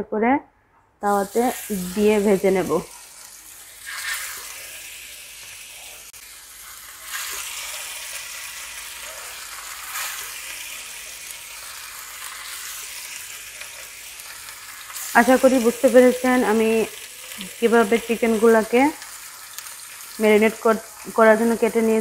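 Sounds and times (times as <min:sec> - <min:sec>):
chicken sizzling in a pan: 0:01.0 - 0:22.0.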